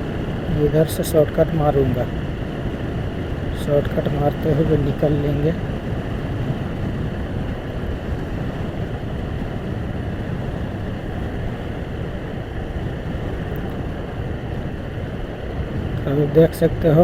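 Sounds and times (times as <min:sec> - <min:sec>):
wind rush on microphone: 0:00.0 - 0:17.0.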